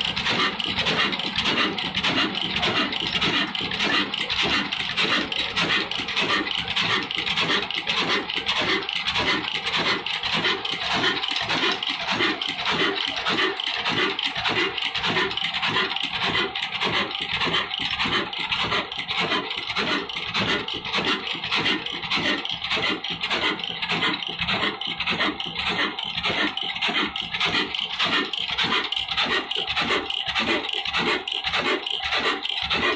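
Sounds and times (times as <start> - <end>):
diesel engine running: 0.0 - 32.9
flour mill grinding: 0.0 - 32.9.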